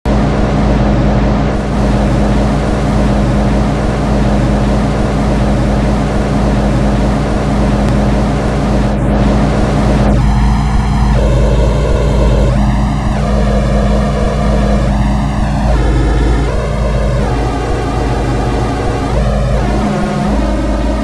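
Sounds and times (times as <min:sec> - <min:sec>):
constant low hum: 0:00.0 - 0:21.0
electric train rumble and hiss: 0:00.1 - 0:21.0.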